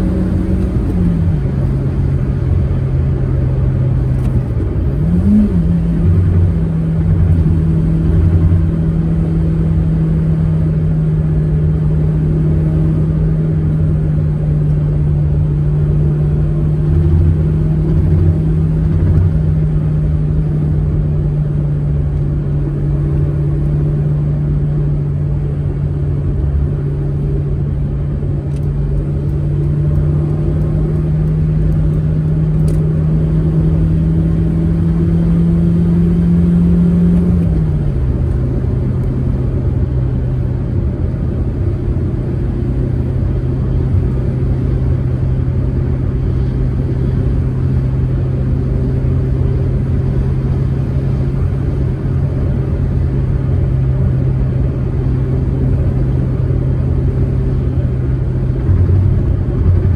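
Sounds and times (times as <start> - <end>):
car engine humming: 0.0 - 59.9
road and tyre rumble: 0.0 - 59.9.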